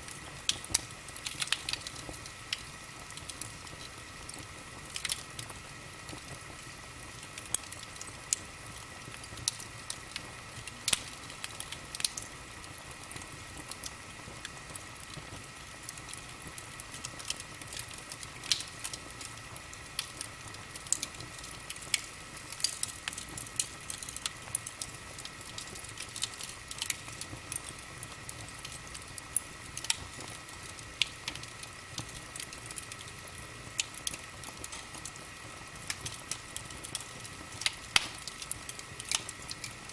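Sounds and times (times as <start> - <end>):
fire hissing: 0.0 - 39.9
wood fire crackling: 0.0 - 39.9.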